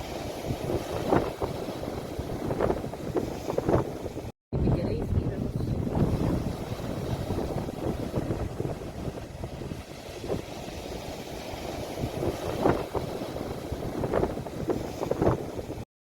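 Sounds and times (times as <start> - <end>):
sea waves rumbling: 0.0 - 15.8
water splashes: 0.0 - 15.8
wind buffeting microphone: 0.0 - 15.8.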